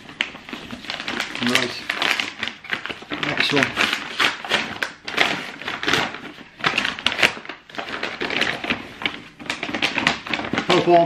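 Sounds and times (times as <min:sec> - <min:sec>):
paper tearing and crinkling: 0:00.0 - 0:11.0.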